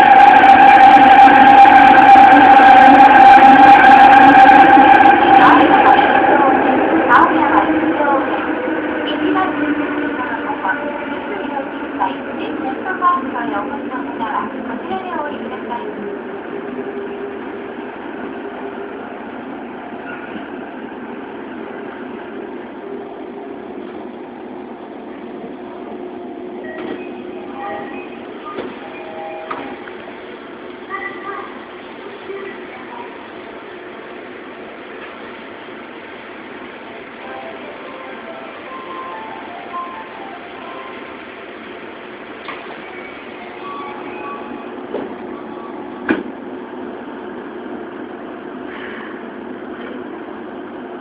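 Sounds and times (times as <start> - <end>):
subway train running noise: 0.0 - 51.0.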